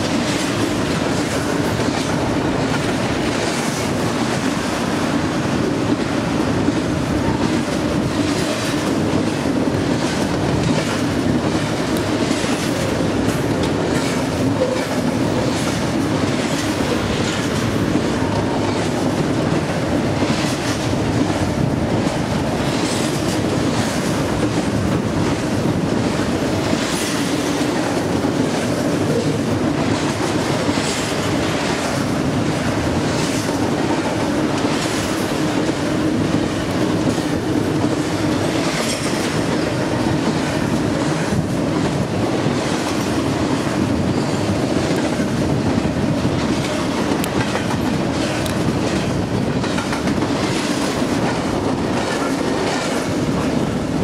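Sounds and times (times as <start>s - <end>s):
train wheels rumbling on rails: 0.0s - 54.0s
wheels clicking over rail joints: 5.6s - 53.7s.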